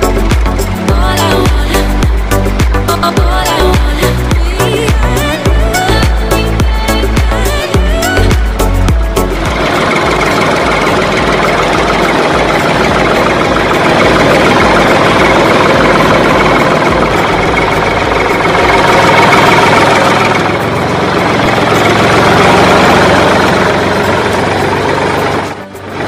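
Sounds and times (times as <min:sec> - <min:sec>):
tractor engine chugging: 0:00.0 - 0:26.0.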